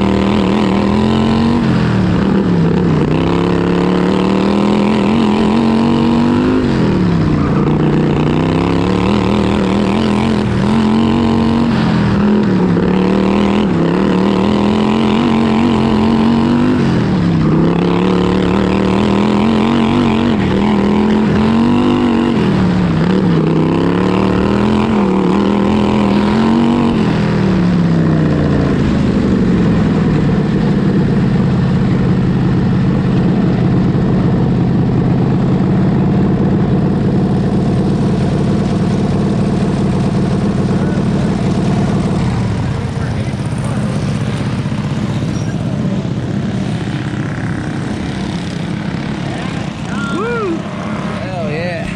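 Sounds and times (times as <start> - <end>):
lawn tractor engine revving: 0.0 - 51.9.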